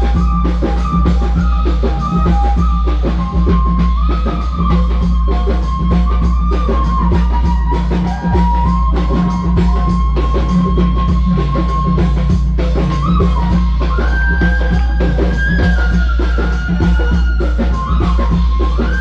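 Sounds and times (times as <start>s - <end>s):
drums and heavy bass beat: 0.0s - 19.0s
flute playing long notes: 0.0s - 19.0s.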